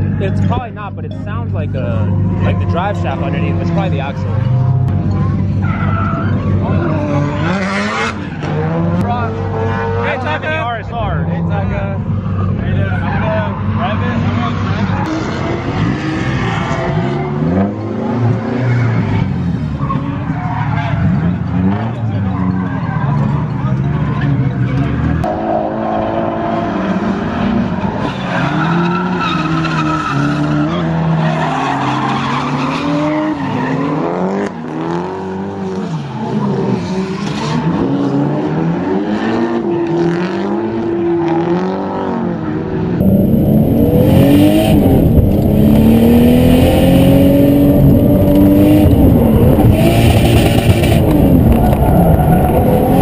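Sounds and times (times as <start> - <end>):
car engines revving: 0.0 - 53.0
tyres skidding: 0.0 - 53.0.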